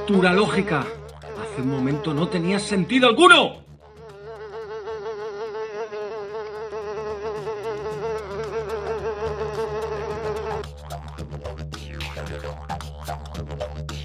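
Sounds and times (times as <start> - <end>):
blowfly buzzing: 0.0 - 13.8.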